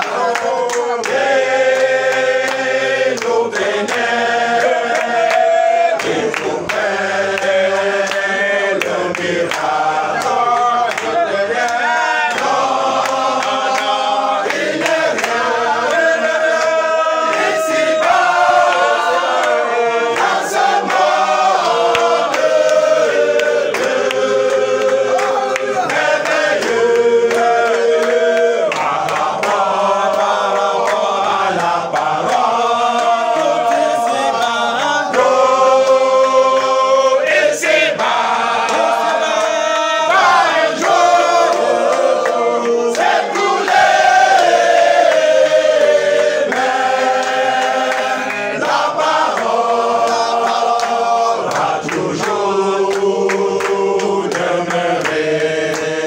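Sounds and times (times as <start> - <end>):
congregation singing a hymn: 0.0 - 56.0
handclaps: 0.0 - 56.0.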